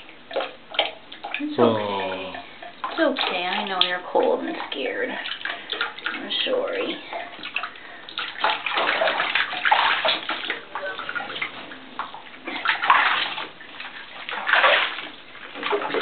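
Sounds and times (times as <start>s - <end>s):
bathwater splashing and sloshing: 0.0s - 16.0s.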